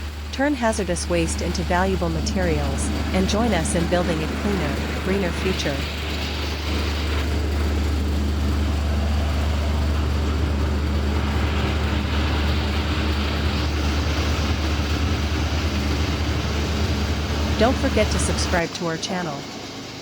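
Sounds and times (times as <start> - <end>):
machinery humming: 0.0 - 20.0.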